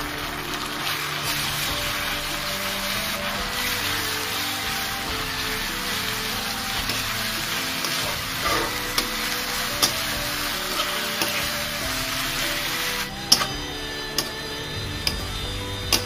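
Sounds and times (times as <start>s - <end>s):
chicken and onions sizzling in oil: 0.0s - 16.0s.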